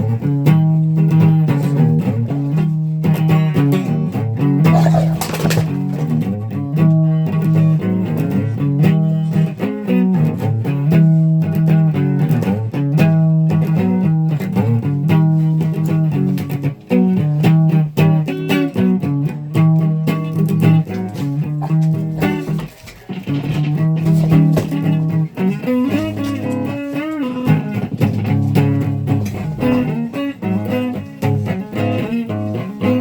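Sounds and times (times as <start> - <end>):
electric guitar riff: 0.0 - 33.0.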